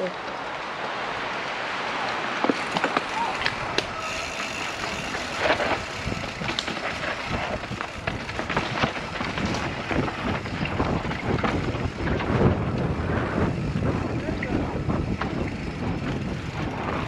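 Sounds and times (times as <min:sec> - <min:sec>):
bike tyres crunching on dirt: 0:00.2 - 0:17.0
bike clicks and rattles: 0:02.0 - 0:17.0
wind on microphone: 0:02.6 - 0:17.0.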